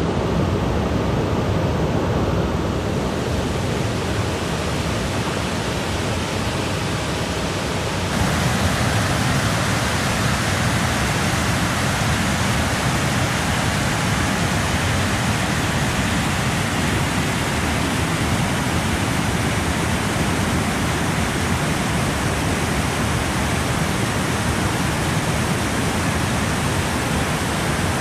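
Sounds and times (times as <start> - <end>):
waterfall and rushing creek: 0.0 - 28.0.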